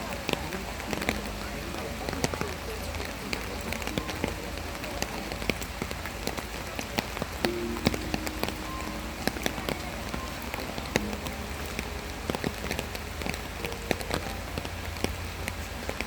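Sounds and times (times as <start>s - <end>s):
raindrops pattering: 0.0s - 16.0s
steady rain: 0.0s - 16.0s.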